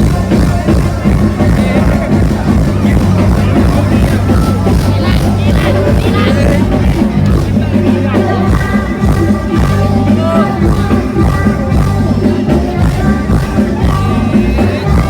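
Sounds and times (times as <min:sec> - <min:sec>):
heavy bass beat: 0:00.0 - 0:15.0
sustained keyboard notes: 0:00.0 - 0:15.0.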